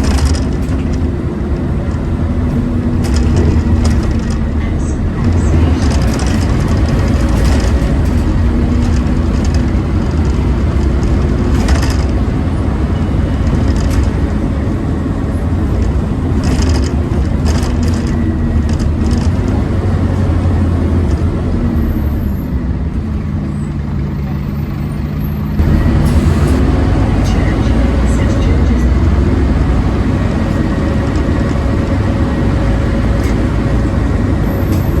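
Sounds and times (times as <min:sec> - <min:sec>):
rattles and clatters: 0:00.0 - 0:22.0, 0:25.6 - 0:35.0
bus engine drone: 0:00.0 - 0:35.0.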